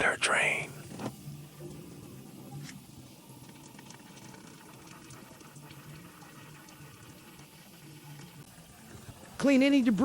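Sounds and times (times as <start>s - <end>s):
oil trickling: 1.2s - 10.0s.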